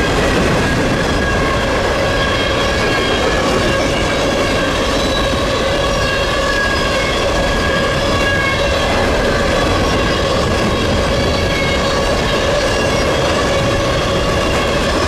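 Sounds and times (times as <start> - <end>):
steel wheels rumbling on rails: 0.0 - 15.0.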